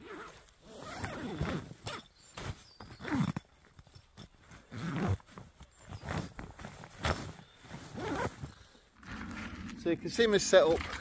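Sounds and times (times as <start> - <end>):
nylon fabric rustling: 0.0 - 9.6.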